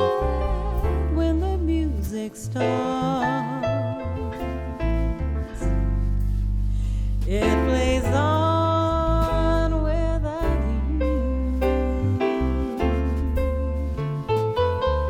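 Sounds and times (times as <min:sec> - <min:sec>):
pop song with bass and singing: 0:00.0 - 0:15.0.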